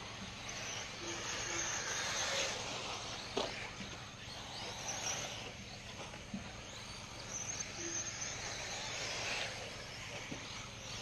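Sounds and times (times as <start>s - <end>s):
electric rc cars running: 0.0s - 11.0s
night insects chirping: 0.0s - 11.0s.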